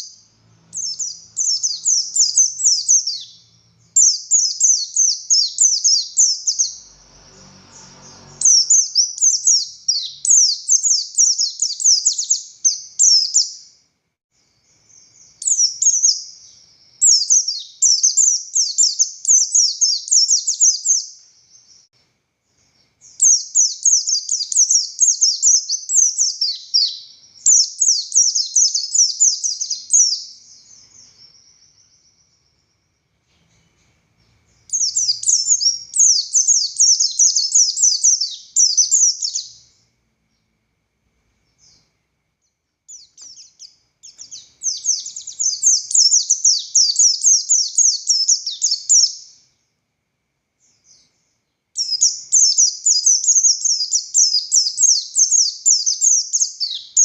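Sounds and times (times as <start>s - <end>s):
bird twittering high-pitched: 0.0s - 13.8s, 14.5s - 21.9s, 22.6s - 33.6s, 34.2s - 40.4s, 41.4s - 49.6s, 50.6s - 57.0s.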